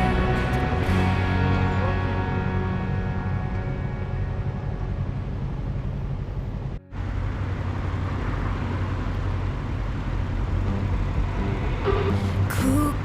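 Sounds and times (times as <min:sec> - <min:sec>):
motorcycle engine drone: 0:00.0 - 0:13.0
road noise: 0:00.0 - 0:13.0.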